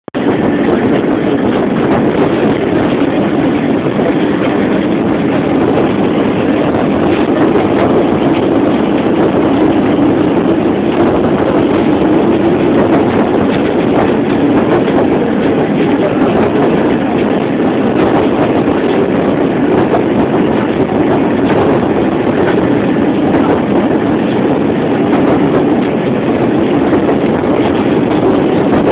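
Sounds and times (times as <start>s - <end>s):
railcar rumble from inside: 0.2s - 28.9s.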